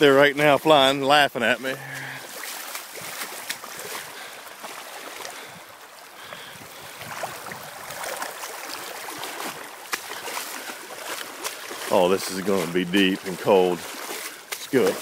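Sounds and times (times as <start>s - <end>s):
creek water rushing and splashing: 0.0s - 15.0s.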